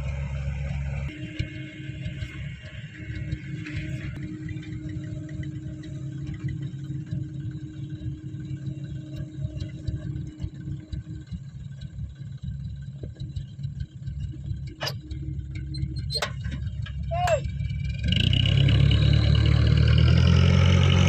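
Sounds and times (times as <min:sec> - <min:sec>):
dump truck engine rumbling: 0:00.0 - 0:21.0.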